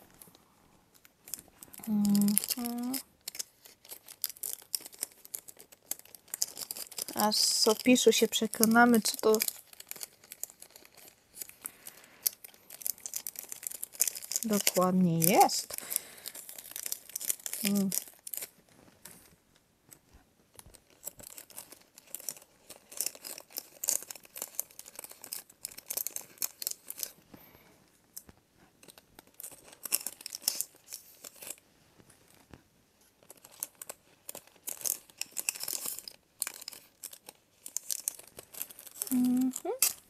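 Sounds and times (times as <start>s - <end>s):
wrapping torn and crinkled: 0.0s - 40.0s.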